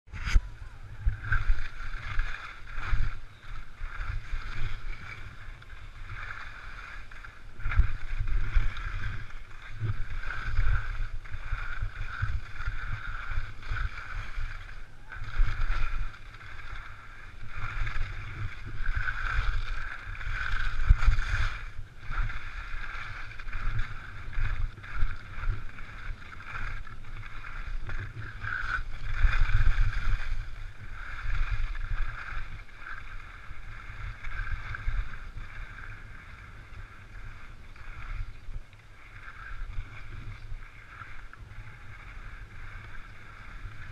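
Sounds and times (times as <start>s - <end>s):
wind buffeting microphone: 0.1s - 43.9s
skis scraping over snow: 1.1s - 43.9s.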